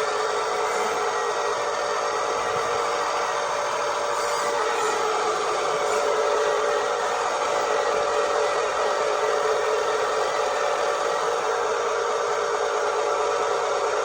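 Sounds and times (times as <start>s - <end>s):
small electric motor whirring: 0.0s - 12.0s.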